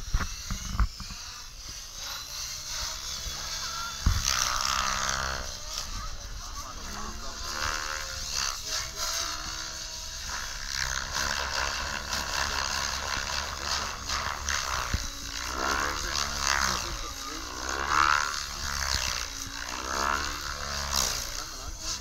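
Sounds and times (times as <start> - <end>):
model helicopter rotor and motor: 0.0 - 22.0.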